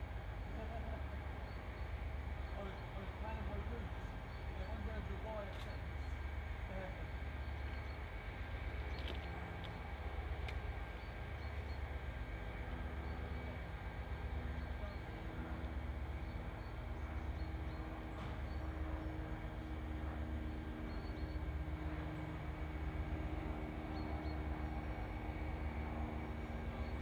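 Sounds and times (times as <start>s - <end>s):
distant diesel locomotives idling: 0.0s - 27.0s
faint hums: 0.0s - 27.0s.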